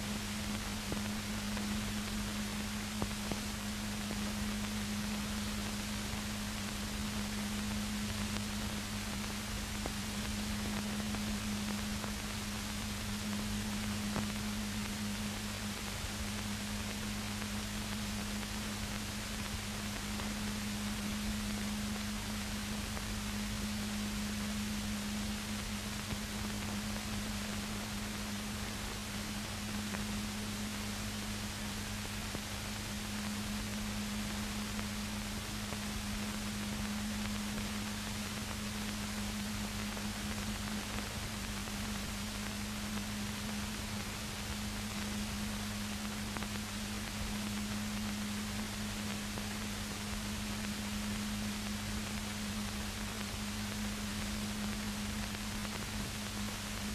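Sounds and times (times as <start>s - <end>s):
constant low hum: 0.0s - 56.9s
steady hiss: 0.0s - 56.9s.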